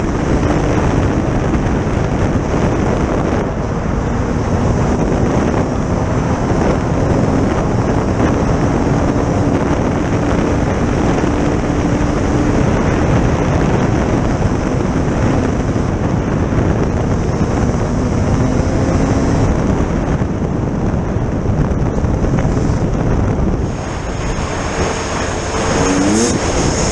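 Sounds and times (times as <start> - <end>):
vehicle engine running: 0.0 - 26.9
wind rushing over microphone: 0.0 - 26.9.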